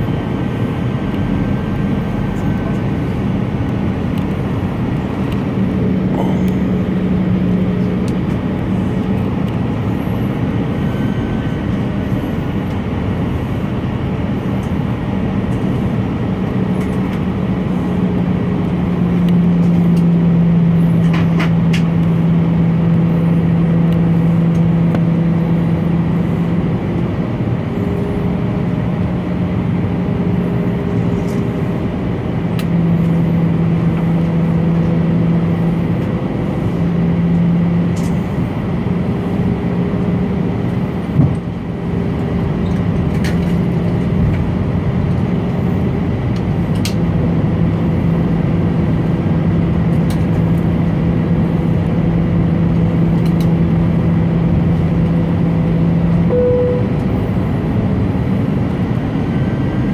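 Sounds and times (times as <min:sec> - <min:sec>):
airflow rush in aircraft cabin: 0:00.0 - 0:59.9
low jet engine hum: 0:00.0 - 0:59.9.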